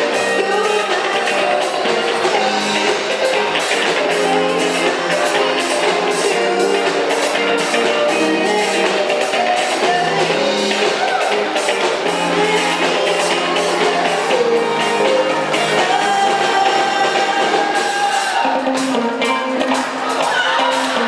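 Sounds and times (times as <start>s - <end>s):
live band playing pop-rock: 0.0s - 21.0s
person singing: 0.0s - 21.0s.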